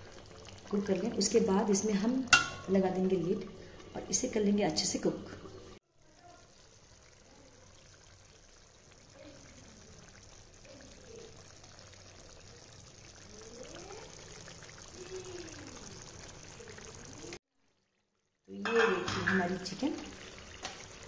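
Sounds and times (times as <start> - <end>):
gravy bubbling in a pan: 0.0 - 21.0.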